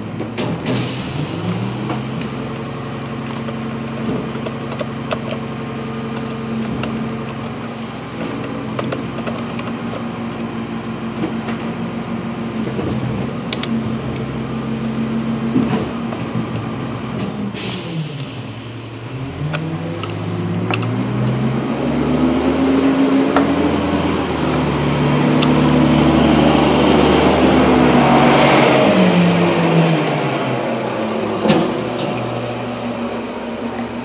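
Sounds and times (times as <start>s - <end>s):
truck engine humming: 0.0s - 34.0s.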